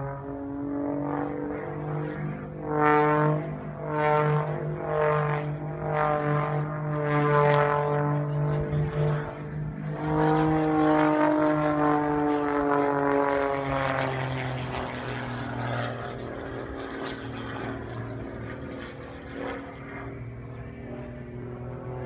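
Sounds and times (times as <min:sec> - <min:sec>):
propeller plane droning overhead: 0:00.0 - 0:22.0.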